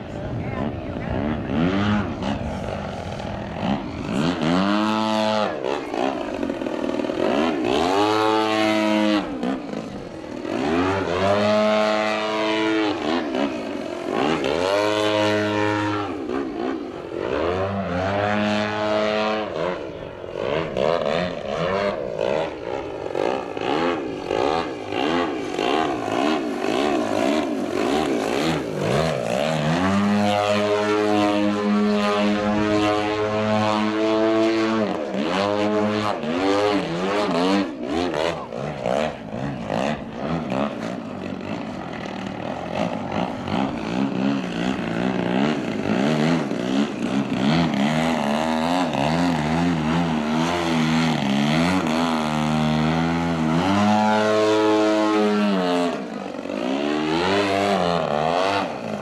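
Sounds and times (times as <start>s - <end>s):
model airplane motor surging: 0.0s - 59.0s.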